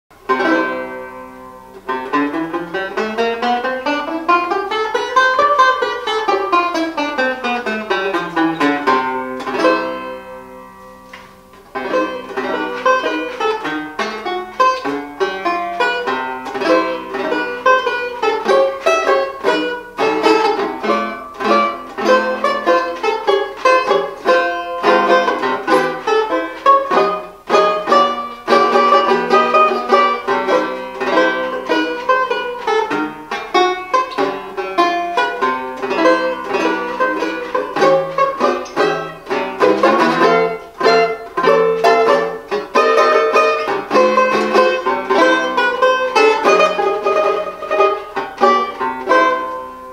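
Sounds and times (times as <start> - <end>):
banjo plucked solo: 0.1 - 49.9.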